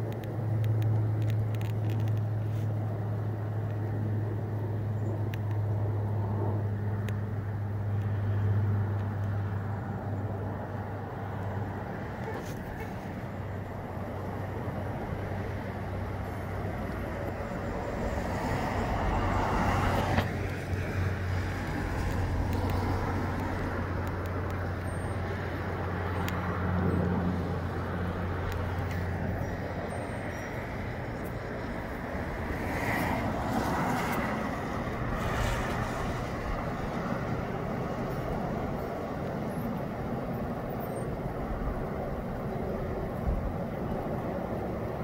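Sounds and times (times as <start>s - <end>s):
gusty wind and rain: 0.0s - 45.0s.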